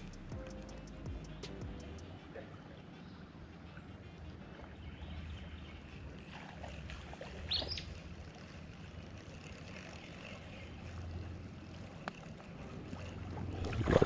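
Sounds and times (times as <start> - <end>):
moving water: 0.0 - 14.0
wind: 0.0 - 14.0.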